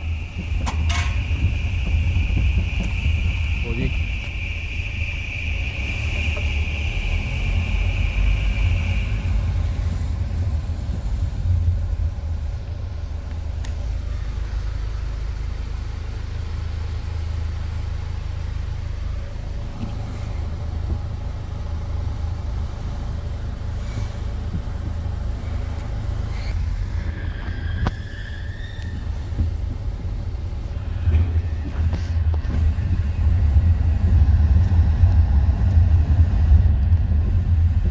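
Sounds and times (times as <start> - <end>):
low mechanical rumble: 0.0 - 37.9.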